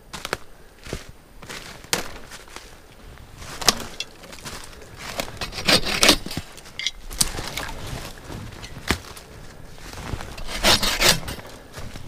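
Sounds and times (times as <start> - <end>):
footsteps crunching snow and leaves: 0.0 - 12.0.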